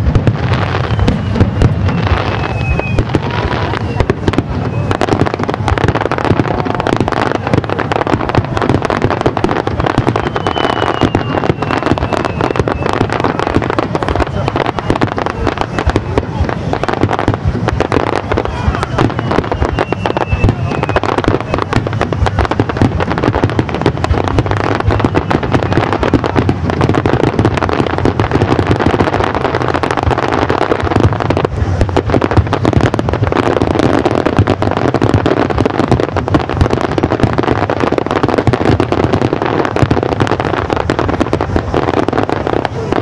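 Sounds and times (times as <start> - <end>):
fireworks bursting and crackling: 0.0 - 43.0.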